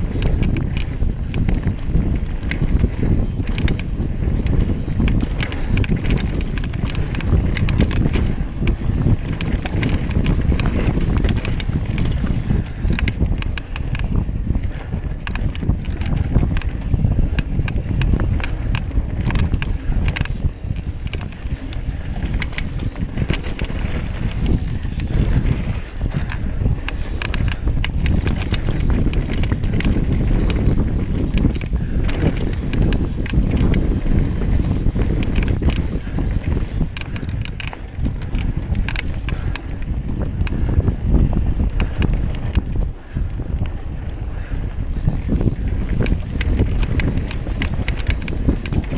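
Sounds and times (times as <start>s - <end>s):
bike rattling over rough ground: 0.0s - 48.9s
wind buffeting microphone: 0.0s - 48.9s.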